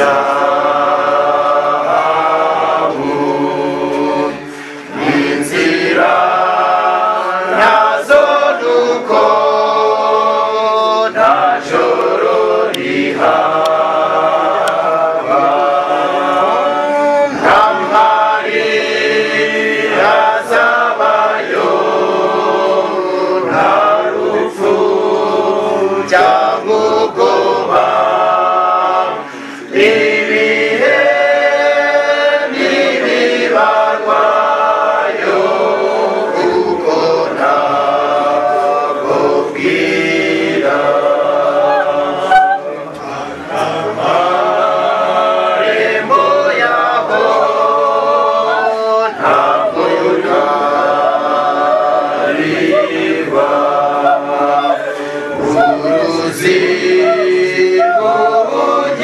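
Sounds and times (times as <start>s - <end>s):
choir singing unaccompanied: 0.0s - 59.0s.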